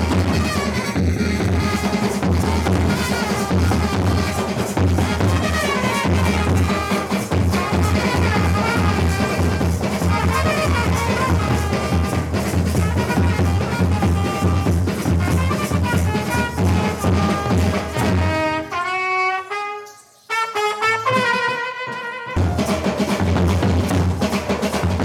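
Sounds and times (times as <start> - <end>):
trumpet playing sliding notes: 0.0 - 22.7.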